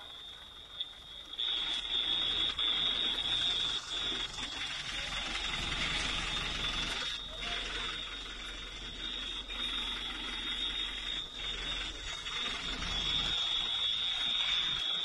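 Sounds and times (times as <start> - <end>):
high-pitched alarm tone: 0.0 - 15.0
rushing background noise: 0.0 - 15.0.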